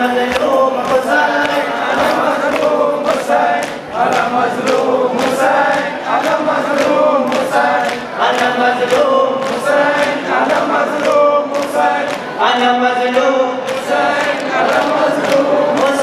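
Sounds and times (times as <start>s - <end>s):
men chanting a lament: 0.0s - 16.0s
rhythmic chest-beating: 0.0s - 16.0s.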